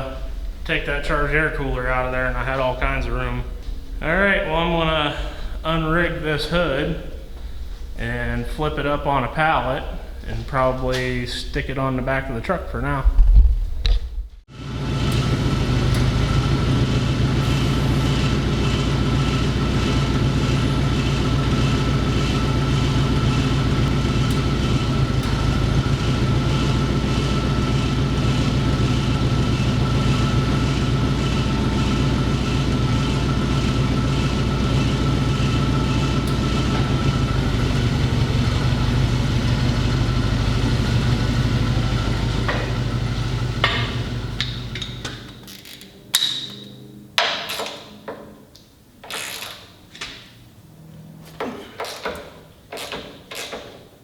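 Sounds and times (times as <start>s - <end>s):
engine droning: 0.0s - 12.9s, 14.5s - 48.3s.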